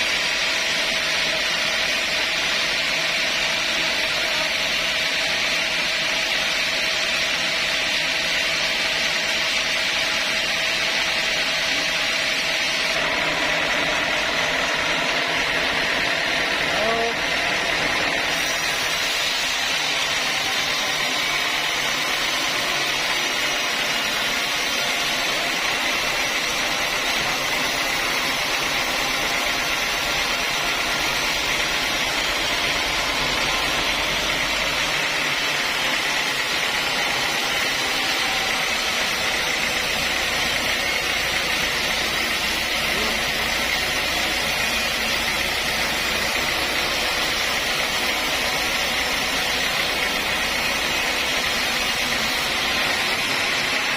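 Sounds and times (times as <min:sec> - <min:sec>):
sawmill saw cutting a log: 0:00.0 - 0:53.9.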